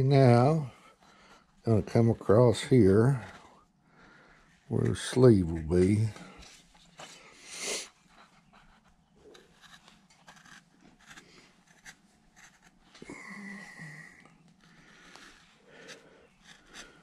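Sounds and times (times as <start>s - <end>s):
carving tool scraping wood: 0.0s - 3.6s, 4.3s - 13.1s, 14.4s - 17.0s.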